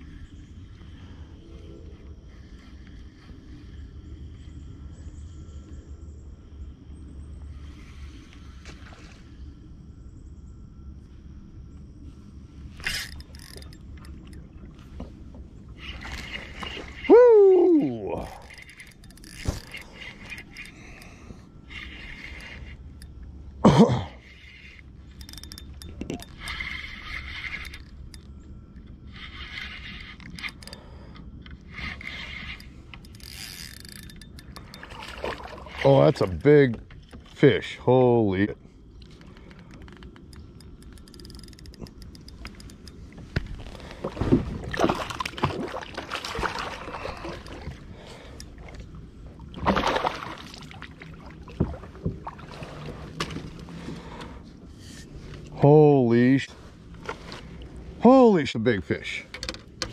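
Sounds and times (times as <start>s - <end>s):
fishing reel whirring: 0.0s - 37.8s, 39.1s - 44.0s, 45.0s - 51.5s
handling noise in a kayak: 11.0s - 38.1s, 38.8s - 59.9s.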